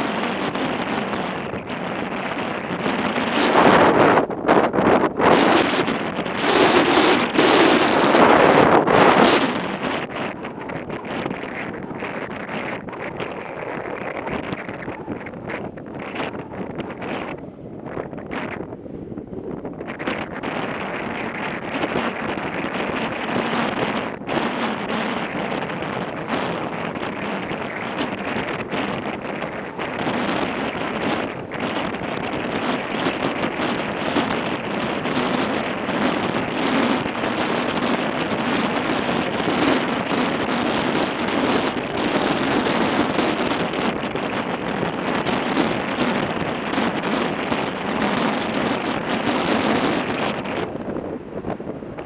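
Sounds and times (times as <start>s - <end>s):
motorcycle engine: 0.0s - 50.7s
road noise: 0.0s - 52.0s
wind rushing over microphone: 0.0s - 52.0s.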